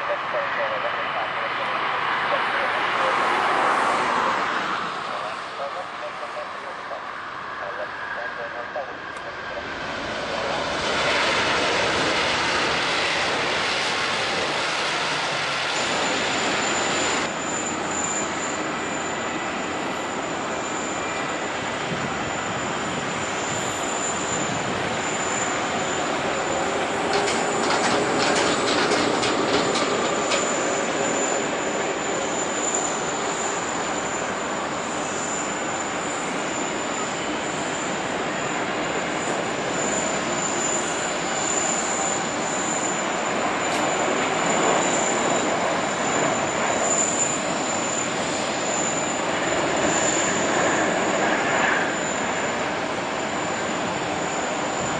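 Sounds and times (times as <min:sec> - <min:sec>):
high jet engine whine: 0:00.0 - 0:54.9
jet engines roaring: 0:00.0 - 0:54.9.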